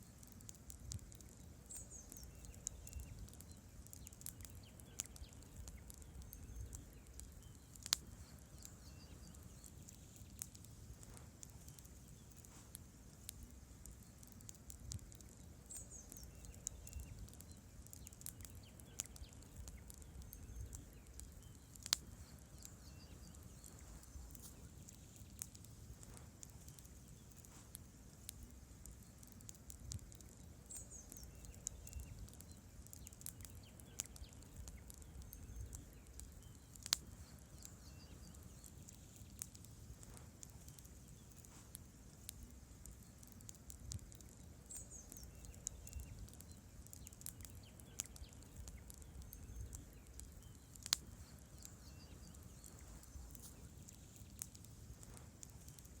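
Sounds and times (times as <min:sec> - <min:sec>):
campfire crackling and popping: 0:00.0 - 0:56.0
low rumble of flames: 0:00.0 - 0:56.0.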